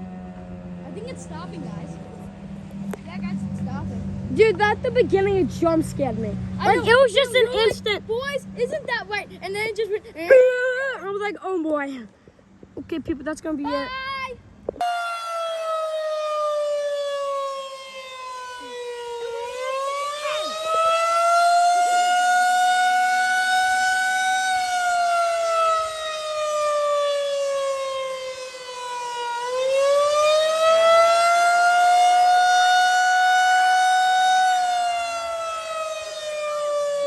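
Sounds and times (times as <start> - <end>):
tornado warning siren wailing: 0.0 - 9.2, 14.8 - 37.0.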